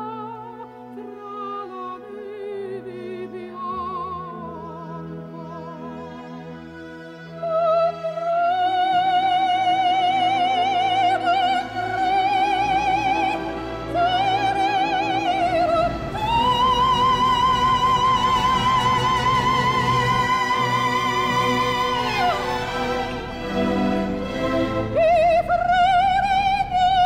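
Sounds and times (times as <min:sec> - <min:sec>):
operatic voice singing: 0:00.0 - 0:06.6, 0:07.3 - 0:27.0
musical accompaniment: 0:00.0 - 0:27.0.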